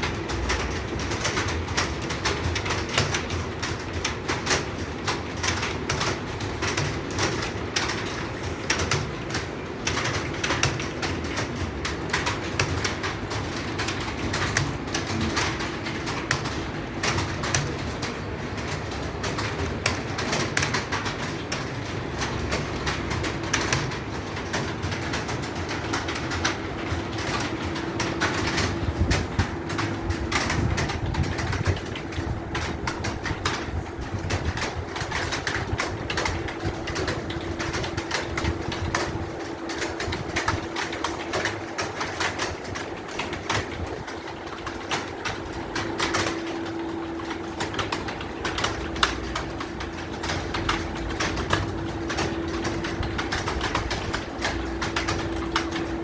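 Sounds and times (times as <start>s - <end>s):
fast typing on keyboard: 0.0s - 56.0s.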